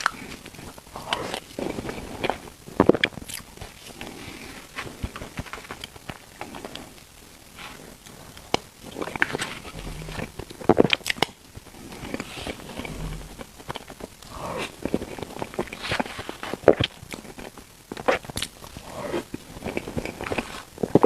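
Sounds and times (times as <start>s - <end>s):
biting and chewing bread: 0.0s - 6.9s, 7.7s - 21.0s.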